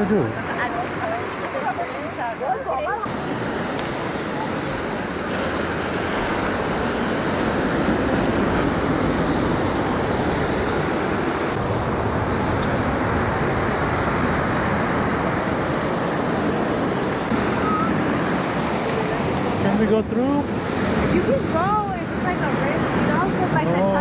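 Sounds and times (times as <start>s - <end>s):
ocean surf breaking on shore: 0.0s - 24.0s.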